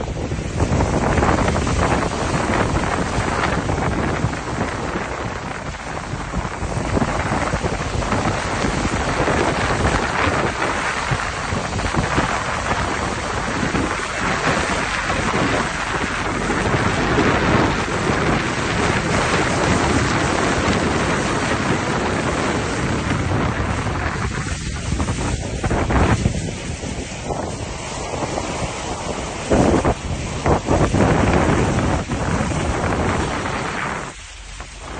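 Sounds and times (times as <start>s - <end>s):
heavy rain pouring: 0.0s - 34.9s
low wind rumble on microphone: 0.0s - 34.9s.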